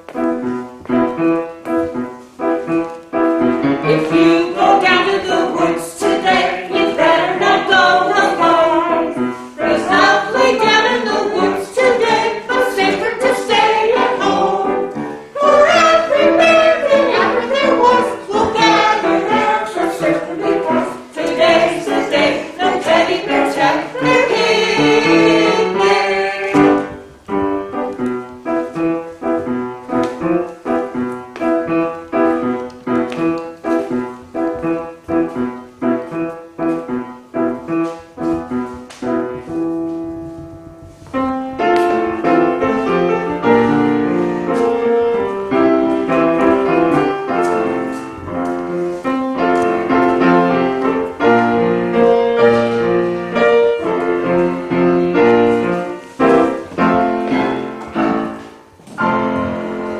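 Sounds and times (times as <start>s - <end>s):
solo piano playing: 0.0s - 59.9s.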